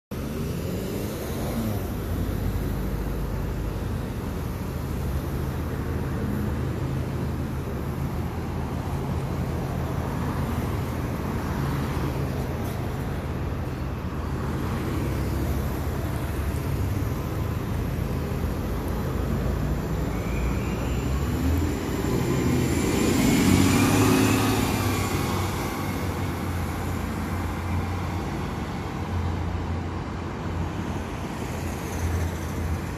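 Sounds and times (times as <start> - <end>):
low hum of bus: 0.1 - 32.9
street traffic: 0.1 - 32.9
bus electric drive whine: 0.2 - 32.9.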